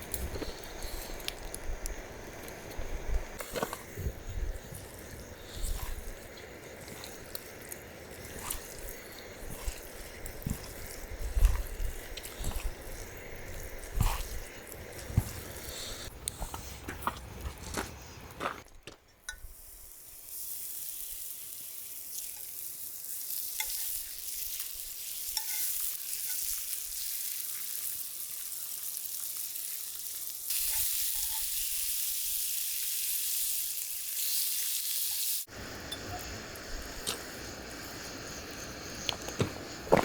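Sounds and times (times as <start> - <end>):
food sizzling in a pan: 0.0 - 16.1, 19.3 - 39.9.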